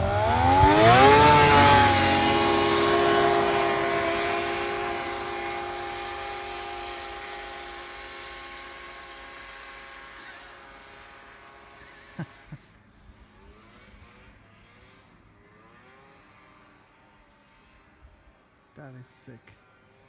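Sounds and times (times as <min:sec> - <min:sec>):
snowmobile engine: 0:00.0 - 0:20.0.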